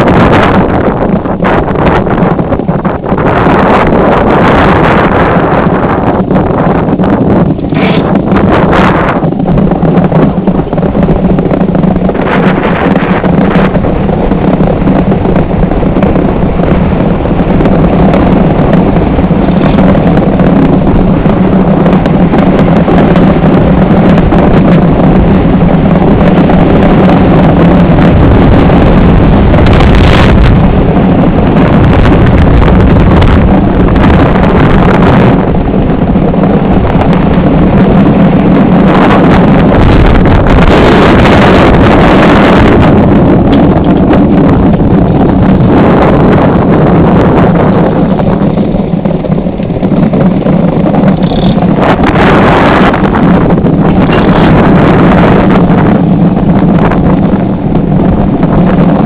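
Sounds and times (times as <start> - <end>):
runners rumbling on ice: 0.0 - 59.0
wind buffeting microphone: 0.0 - 59.0.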